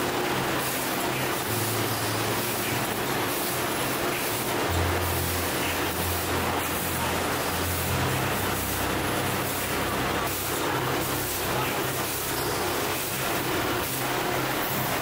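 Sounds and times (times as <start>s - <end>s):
factory machinery hiss: 0.0s - 15.0s
low machinery hum: 0.0s - 15.0s.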